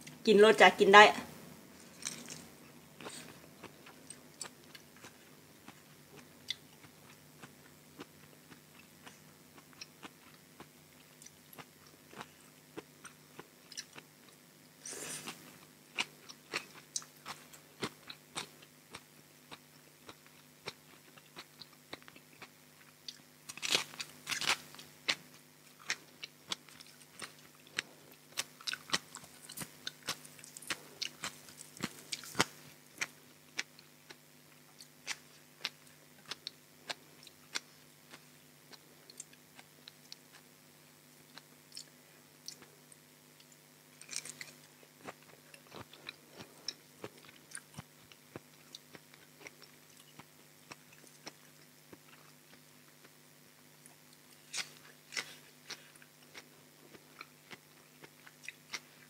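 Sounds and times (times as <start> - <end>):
person crunching raw vegetables: 1.7 - 40.5, 43.4 - 53.1, 53.8 - 59.0.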